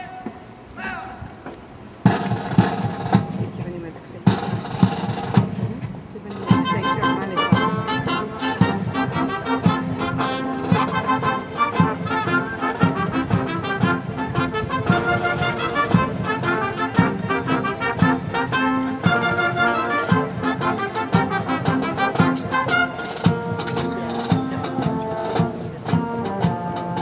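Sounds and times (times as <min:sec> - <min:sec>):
brass band playing: 0:02.0 - 0:03.4, 0:04.3 - 0:27.0
low drum beat: 0:02.0 - 0:27.0.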